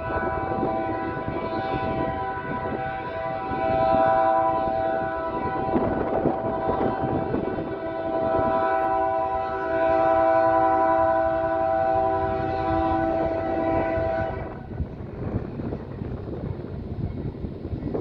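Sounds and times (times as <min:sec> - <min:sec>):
locomotive air horn: 0:00.0 - 0:14.8
passing train rumble: 0:00.0 - 0:18.0.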